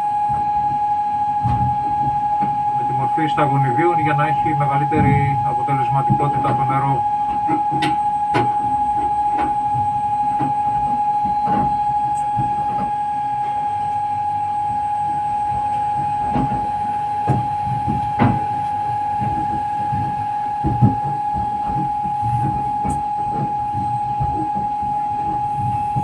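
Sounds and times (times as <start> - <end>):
steady high tone: 0.0 - 26.0
sharp knocks and clicks: 1.4 - 2.6, 3.3 - 14.0, 15.5 - 26.0.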